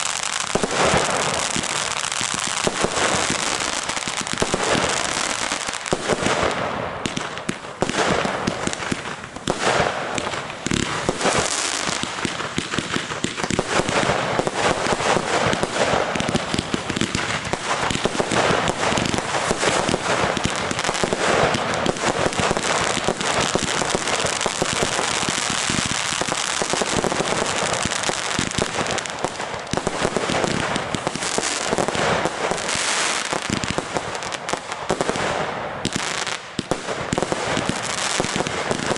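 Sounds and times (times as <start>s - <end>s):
fireworks and firecrackers popping: 0.0s - 38.9s.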